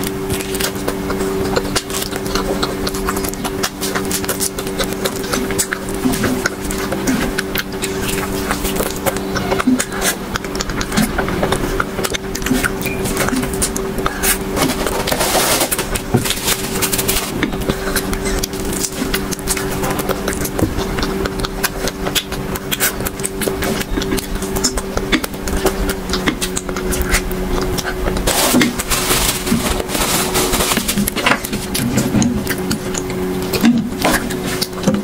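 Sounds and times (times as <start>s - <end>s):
chewing and mouth sounds: 0.0s - 35.0s
steady low hum: 0.0s - 35.0s.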